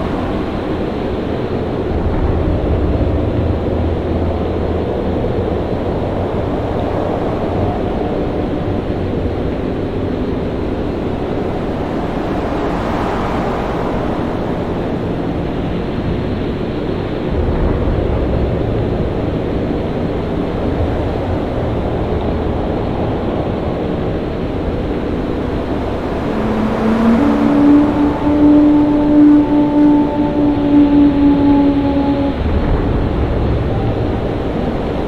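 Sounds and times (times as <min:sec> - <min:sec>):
deep rumbling surges: 0:00.0 - 0:35.0
waves roaring: 0:00.0 - 0:35.0
wind roaring: 0:00.0 - 0:35.0.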